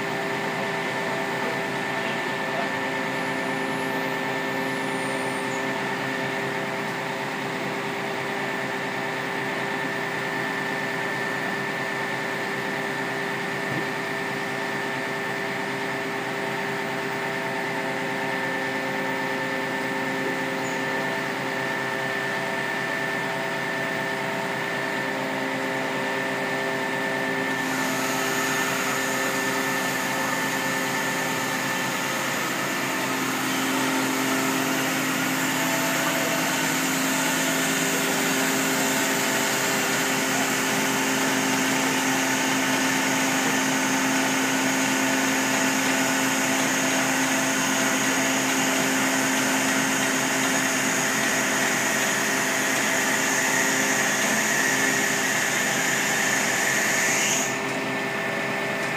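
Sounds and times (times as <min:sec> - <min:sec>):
truck hydraulic hum and whine: 0:00.0 - 0:58.9.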